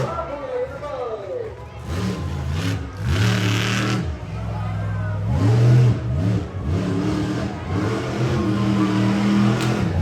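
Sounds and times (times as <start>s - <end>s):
monster truck engine revving: 1.6s - 10.0s.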